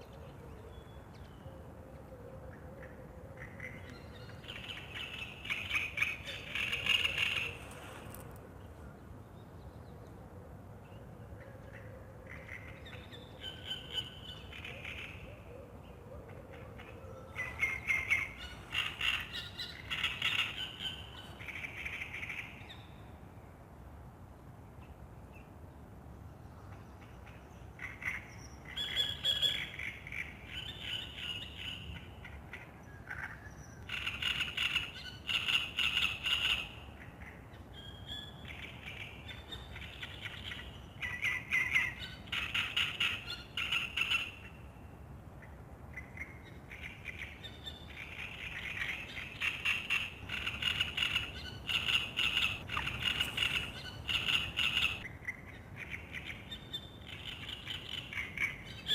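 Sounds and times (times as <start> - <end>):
songbirds singing: 0.0 - 23.2, 24.7 - 58.9
low background hiss: 0.0 - 58.9.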